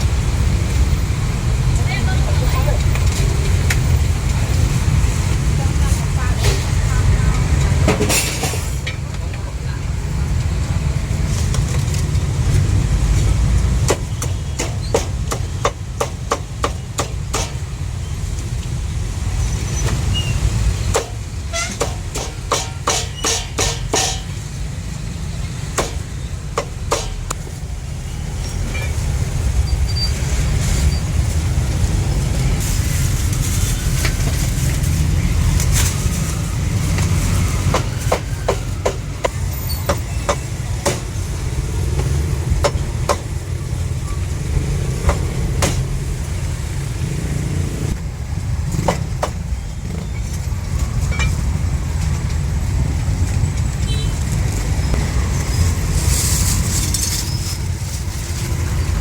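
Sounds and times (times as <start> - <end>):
low rumble of street traffic: 0.0 - 59.0.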